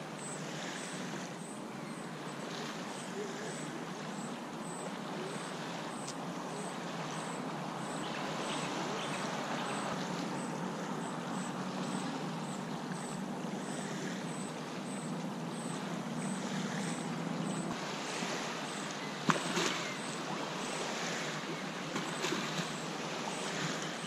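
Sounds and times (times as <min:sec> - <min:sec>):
waves lapping on sandy shore: 0:00.0 - 0:24.0.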